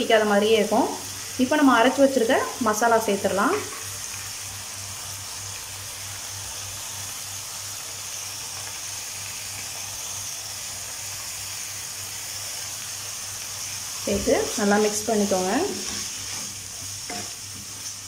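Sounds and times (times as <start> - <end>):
beans sizzling in a pan: 0.0 - 18.0.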